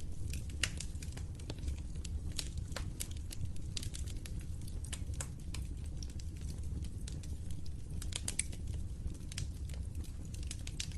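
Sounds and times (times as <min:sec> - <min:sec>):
wood fire crackling: 0:00.0 - 0:10.9.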